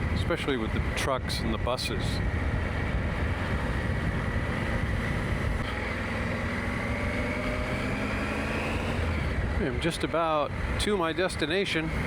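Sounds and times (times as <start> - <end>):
wind rush on microphone: 0.0 - 12.0
motorcycle engine running: 2.0 - 12.0.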